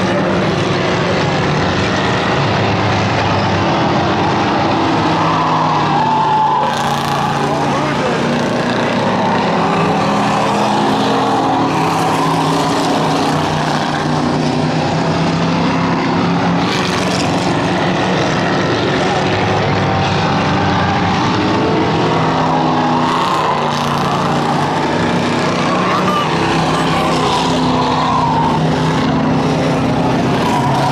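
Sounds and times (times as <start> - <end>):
race car engine droning: 0.0 - 30.9.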